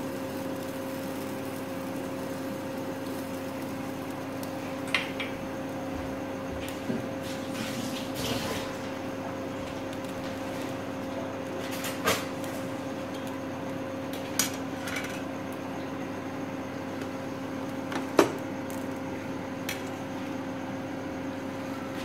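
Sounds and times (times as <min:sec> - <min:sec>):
electric cooktop hum: 0:00.0 - 0:22.0.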